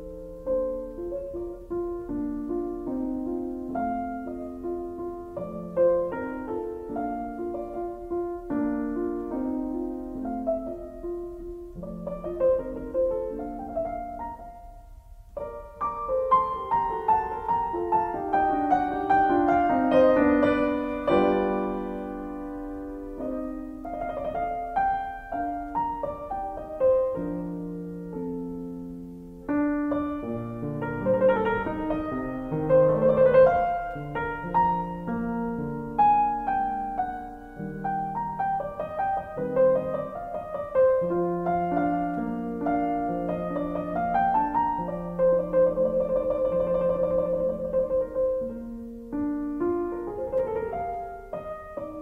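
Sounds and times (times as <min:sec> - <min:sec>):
solo piano music: 0:00.0 - 0:52.0.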